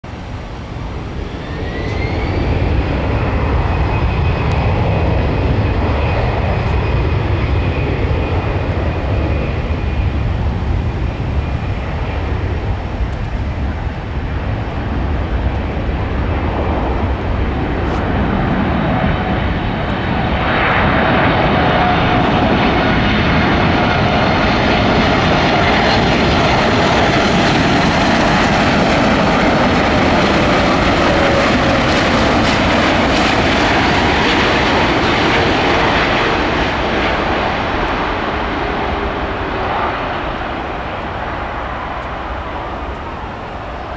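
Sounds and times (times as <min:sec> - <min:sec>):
jet engines rumbling: 0:00.0 - 0:43.9
falling jet whine: 0:00.1 - 0:43.9.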